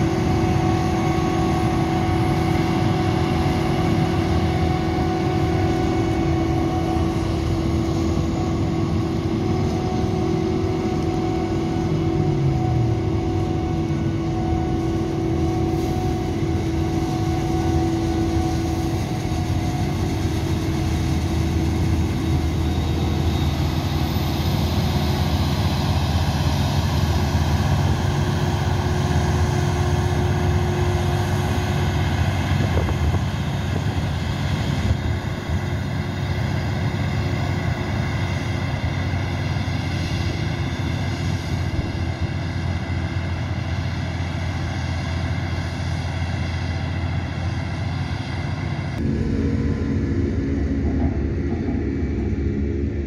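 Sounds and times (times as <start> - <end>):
constant hum: 0.0 - 53.0
heavy machinery drone: 0.0 - 53.0.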